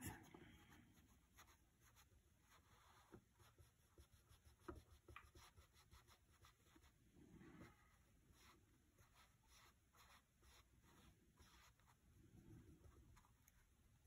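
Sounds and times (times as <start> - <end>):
pencil scratching on paper: 0.0 - 7.0, 7.6 - 12.0.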